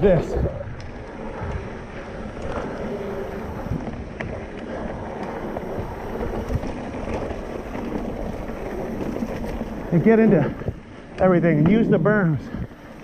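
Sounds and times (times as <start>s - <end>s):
wind on microphone: 0.0s - 10.9s
bike tyres on dirt trail: 0.0s - 13.0s
bike knocks and rattles: 0.8s - 12.8s.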